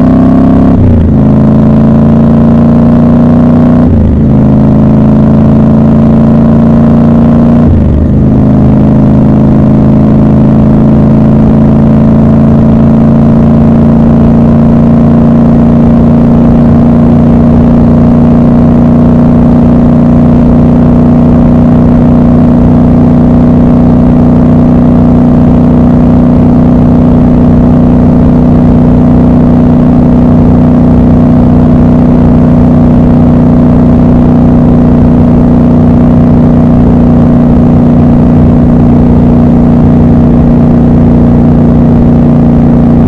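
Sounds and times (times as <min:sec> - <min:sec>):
motorcycle engine and exhaust cruising: 0:00.0 - 0:43.0.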